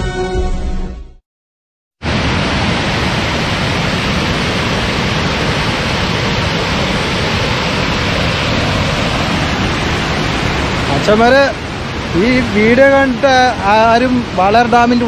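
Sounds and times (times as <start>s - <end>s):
water rushing down spillway: 2.0s - 15.0s.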